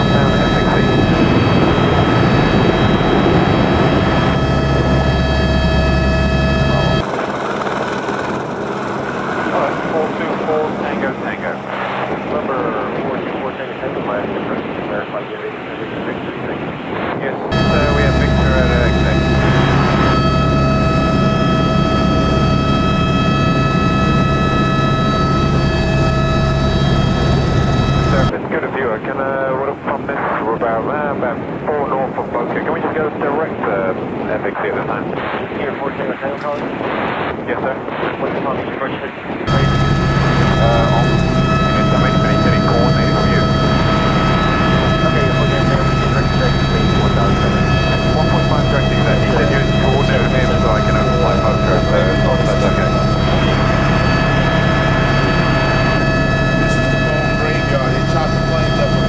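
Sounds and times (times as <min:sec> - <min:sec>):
helicopter rotor rumble: 0:00.0 - 0:59.0
helicopter turbine whine: 0:00.0 - 0:59.0.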